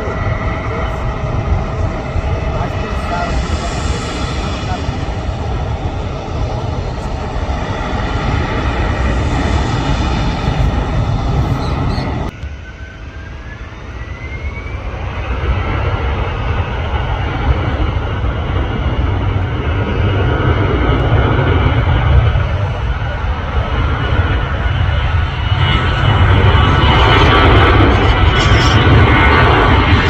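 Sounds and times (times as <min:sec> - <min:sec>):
jet engine roar: 0:00.0 - 0:30.0
rising engine whine: 0:00.0 - 0:30.0.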